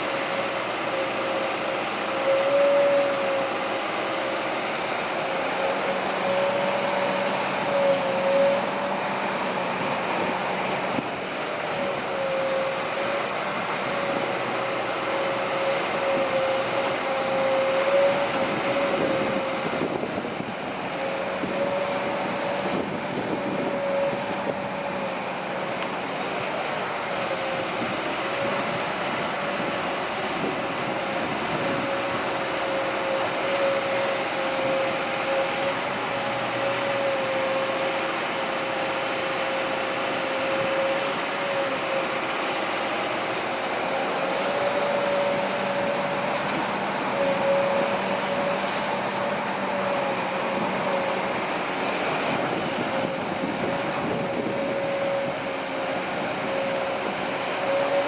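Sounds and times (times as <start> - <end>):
hydraulic excavator whining: 0.0 - 58.0.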